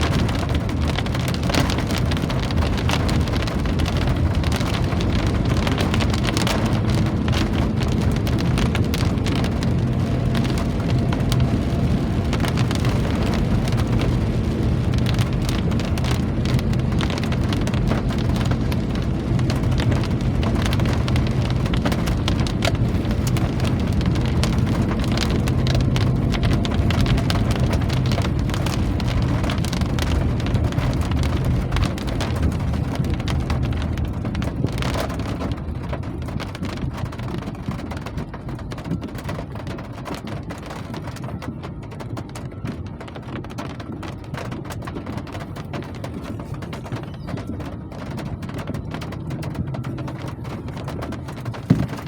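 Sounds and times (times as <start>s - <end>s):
low rumble: 0.0s - 52.0s
rain pattering on a surface: 0.0s - 52.0s.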